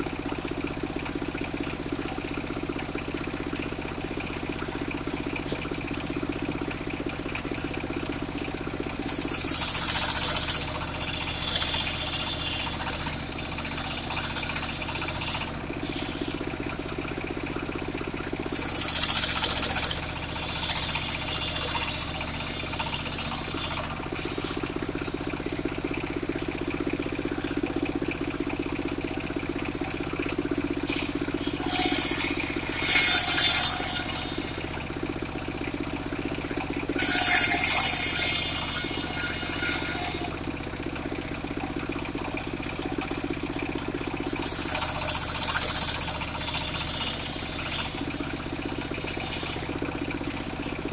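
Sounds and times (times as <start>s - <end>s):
sawmill engine running: 0.3s - 27.2s, 29.4s - 41.6s, 43.0s - 50.9s.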